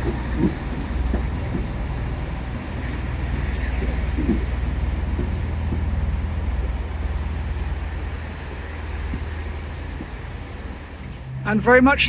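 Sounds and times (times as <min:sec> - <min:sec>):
diesel train engines rumbling: 0:00.0 - 0:12.0.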